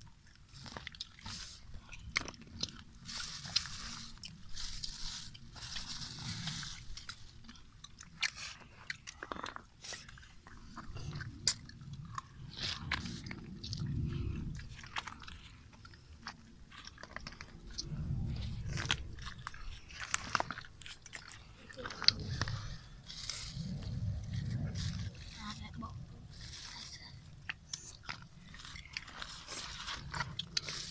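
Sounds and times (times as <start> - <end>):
close chewing and crunching: 0.0 - 30.9.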